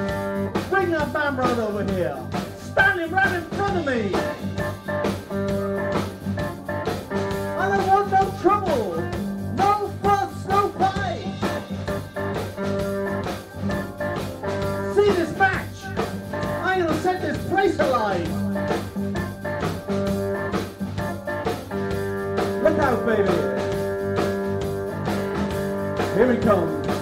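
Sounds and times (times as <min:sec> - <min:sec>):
drum kit beat: 0:00.0 - 0:27.0
electric guitar lead: 0:00.0 - 0:27.0
keyboard chords: 0:00.0 - 0:27.0.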